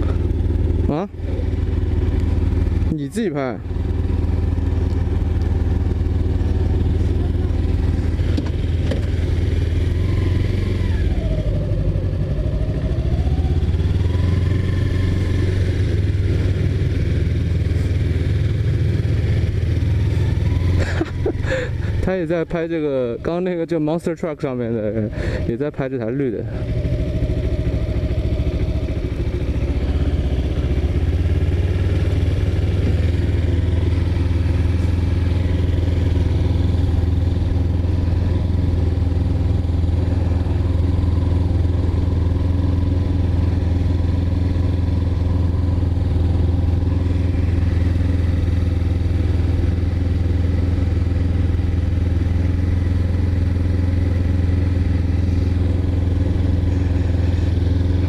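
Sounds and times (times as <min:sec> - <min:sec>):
motorcycle engine droning: 0:00.0 - 0:58.0.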